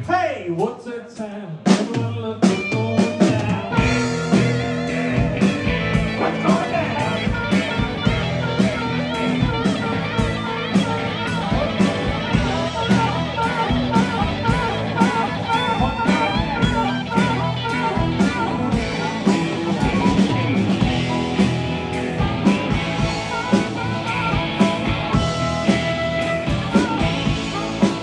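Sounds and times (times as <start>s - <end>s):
live blues band: 0.0s - 28.0s
electric guitar: 2.4s - 28.0s
amplified harmonica: 3.4s - 28.0s.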